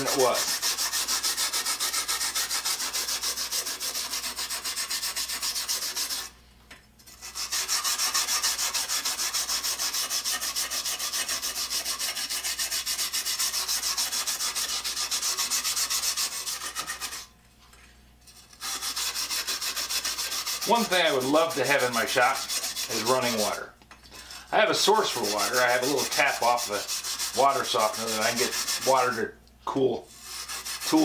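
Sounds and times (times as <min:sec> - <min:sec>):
wire brush scrubbing metal: 0:00.0 - 0:06.3, 0:07.1 - 0:17.3, 0:18.3 - 0:23.6, 0:24.2 - 0:29.2, 0:30.1 - 0:31.0.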